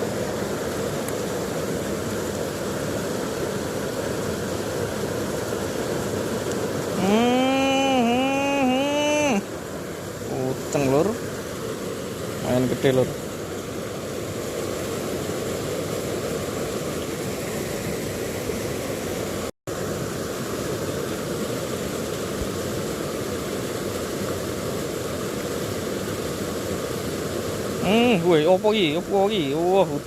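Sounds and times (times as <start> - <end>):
stream flowing over stones: 0.0 - 30.0.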